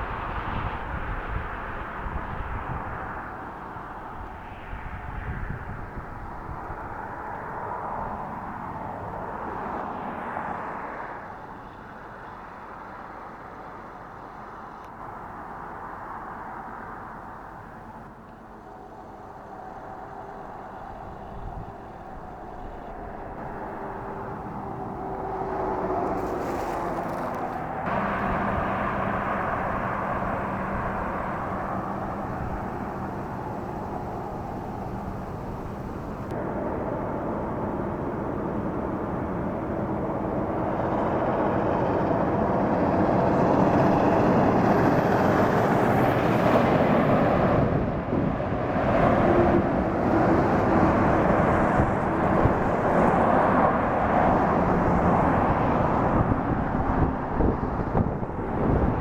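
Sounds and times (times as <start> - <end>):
steady vehicle noise: 0.0 - 59.0.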